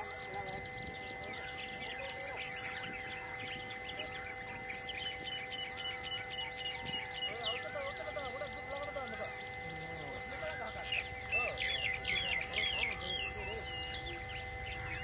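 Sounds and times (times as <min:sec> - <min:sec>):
birds chirping and whistling: 0:00.0 - 0:15.0
steady background drone: 0:00.0 - 0:15.0.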